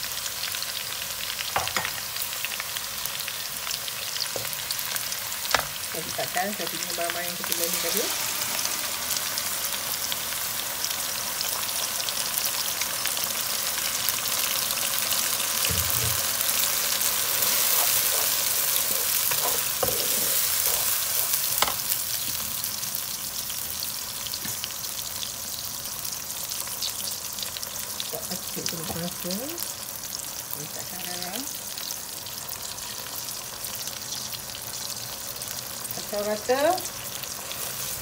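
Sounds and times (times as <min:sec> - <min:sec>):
paste sizzling in hot oil: 0:00.0 - 0:38.0.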